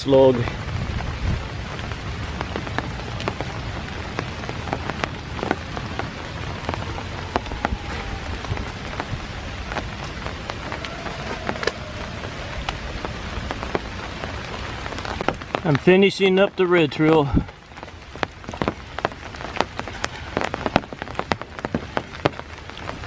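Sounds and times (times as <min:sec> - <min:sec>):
raindrops ticking nearby: 0:00.0 - 0:23.0
steady rain: 0:00.0 - 0:23.0.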